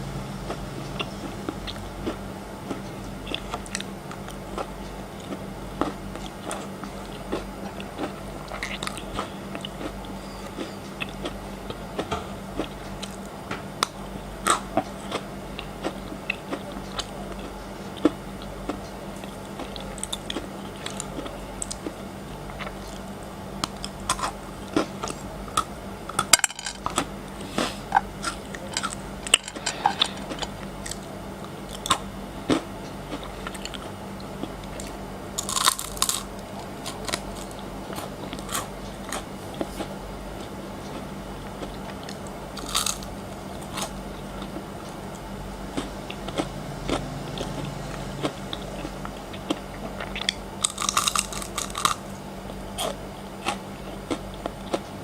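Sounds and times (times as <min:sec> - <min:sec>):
low steady hum: 0:00.0 - 0:55.0
crunching frozen chocolate: 0:01.6 - 0:11.9, 0:12.6 - 0:40.5, 0:41.4 - 0:45.0, 0:45.7 - 0:54.9.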